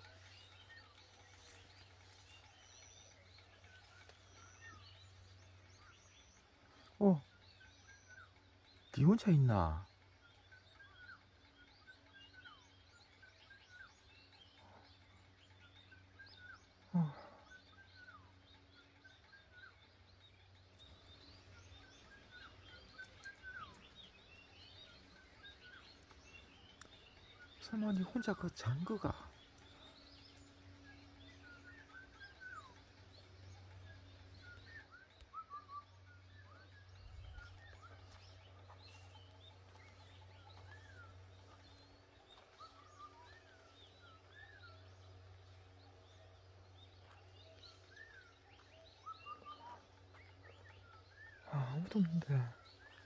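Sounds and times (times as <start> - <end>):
faint chirping calls: 0.0 - 53.0
low steady hum: 0.0 - 53.0.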